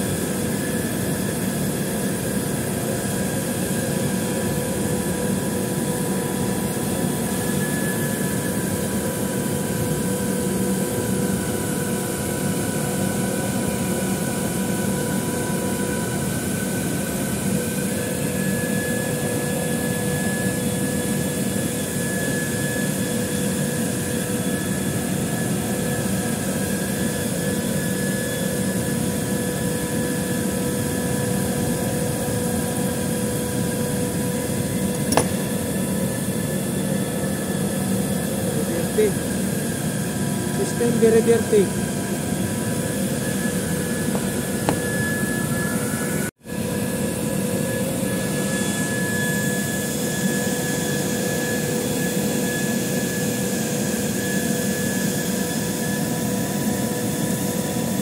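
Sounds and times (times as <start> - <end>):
air-conditioning unit whirring: 0.0 - 58.0
machine whining tones: 0.1 - 56.8.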